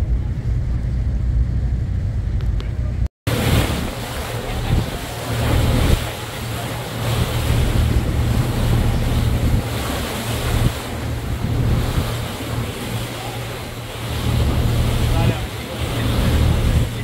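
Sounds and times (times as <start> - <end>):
boat engine drone: 0.0 - 17.0
water rushing past hull: 0.0 - 17.0
wind buffeting microphone: 0.0 - 17.0.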